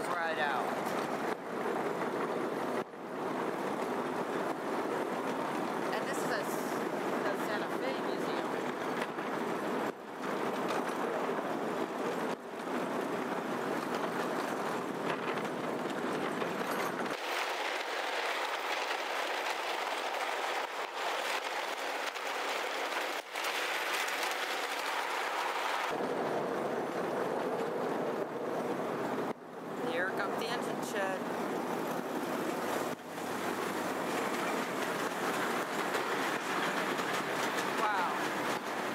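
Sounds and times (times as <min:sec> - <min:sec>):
miniature train rolling on track: 0:00.0 - 0:29.3, 0:29.9 - 0:38.9.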